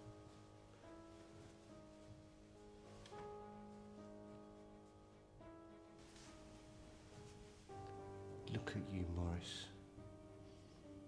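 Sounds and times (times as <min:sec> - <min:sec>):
soft sustained background music: 0:00.0 - 0:11.0.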